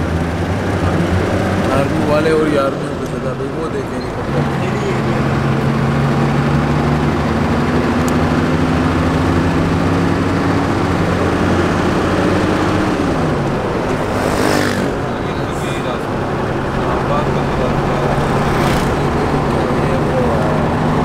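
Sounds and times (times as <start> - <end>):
car engine: 0.0 - 21.0
tyre road noise: 0.0 - 21.0.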